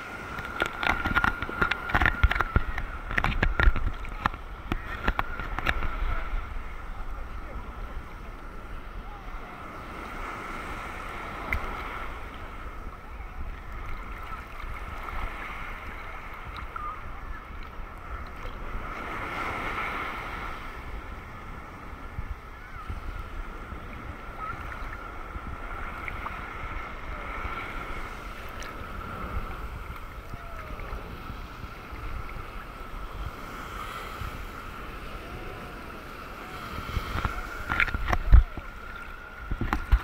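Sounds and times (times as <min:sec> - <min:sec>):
sea water sloshing: 0:00.0 - 0:20.9, 0:21.5 - 0:40.0
wind rumbling on microphone: 0:00.0 - 0:40.0.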